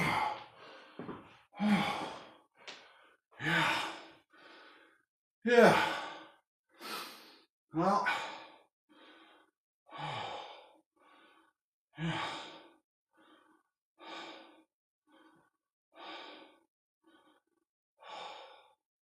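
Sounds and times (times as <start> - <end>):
man breathing hard: 0.0 - 18.8.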